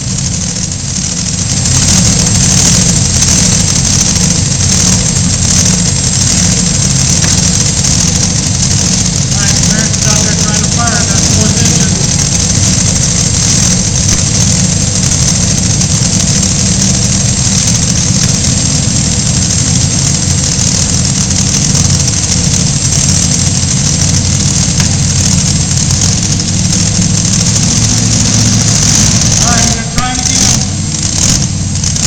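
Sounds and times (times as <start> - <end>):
loud truck engine running: 0.0 - 32.0.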